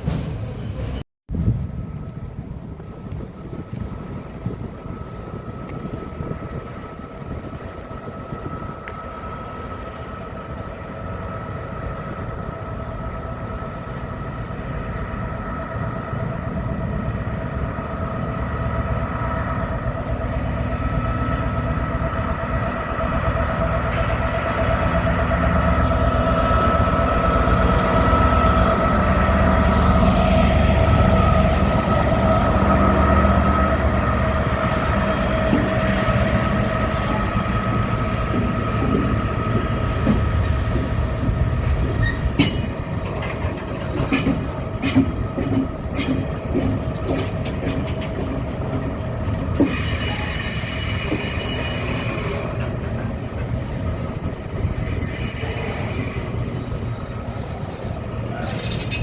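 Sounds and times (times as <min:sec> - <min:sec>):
low rumble of train: 0:00.0 - 0:59.0
train approaching: 0:00.0 - 0:59.0.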